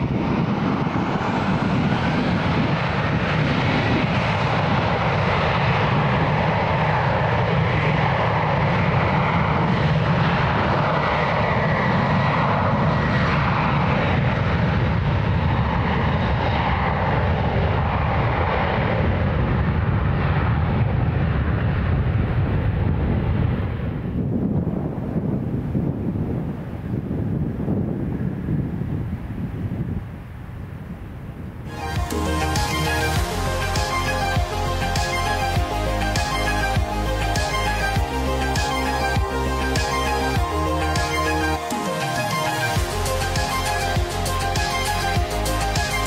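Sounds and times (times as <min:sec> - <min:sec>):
jet engines running: 0:00.0 - 0:29.3, 0:31.4 - 0:46.0.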